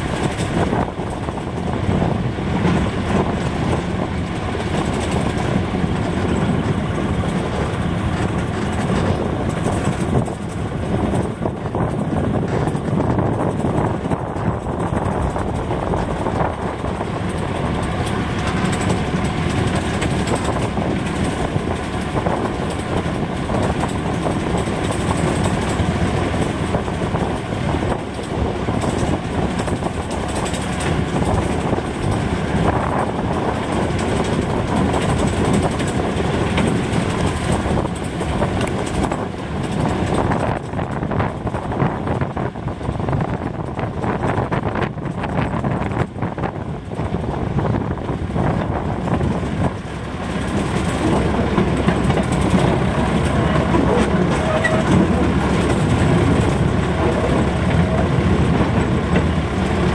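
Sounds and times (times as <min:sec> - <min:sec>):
locomotive engine running: 0:00.0 - 0:59.9.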